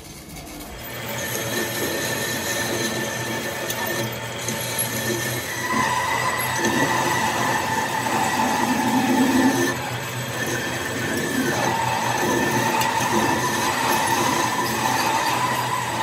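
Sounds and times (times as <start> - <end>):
workshop machine whining: 0.0 - 16.0.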